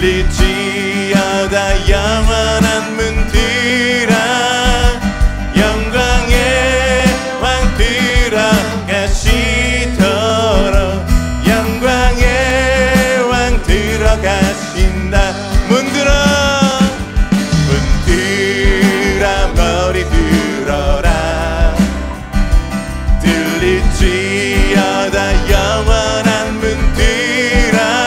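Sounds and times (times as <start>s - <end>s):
worship band with singing: 0.0s - 28.0s.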